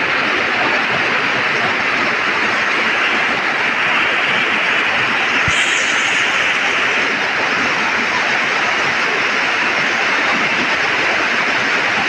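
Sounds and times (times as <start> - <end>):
heavy rain on muddy ground: 0.0 - 12.0.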